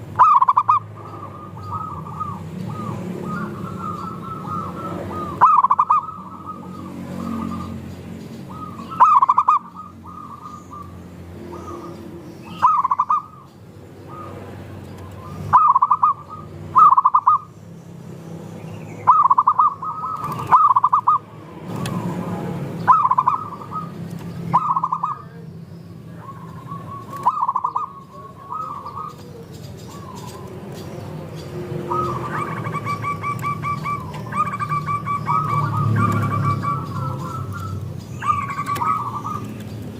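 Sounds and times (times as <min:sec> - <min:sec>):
dove cooing: 0:00.0 - 0:07.8, 0:08.5 - 0:14.5, 0:15.1 - 0:17.5, 0:19.0 - 0:25.4, 0:26.1 - 0:39.8.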